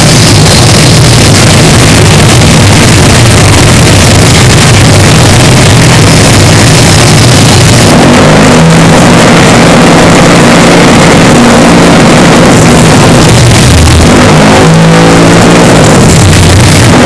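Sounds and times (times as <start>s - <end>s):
distorted engine drone: 0.0s - 17.0s.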